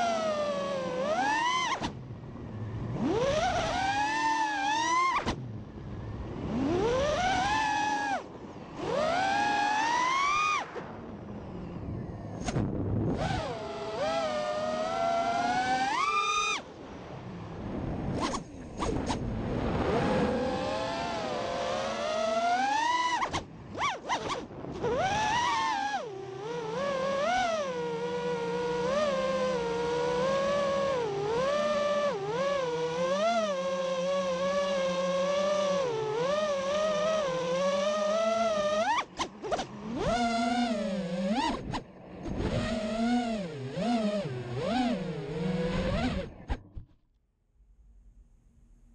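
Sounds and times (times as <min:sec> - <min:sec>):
drone motors whining: 0:00.0 - 0:47.0.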